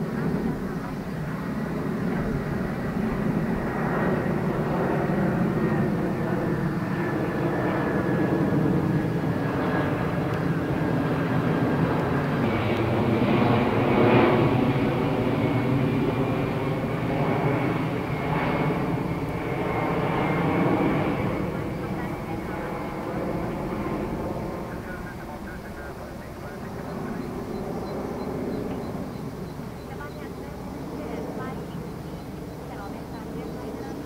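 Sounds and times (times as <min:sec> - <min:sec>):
high jet whine: 0:00.0 - 0:34.0
jet engines rumbling overhead: 0:00.0 - 0:34.0.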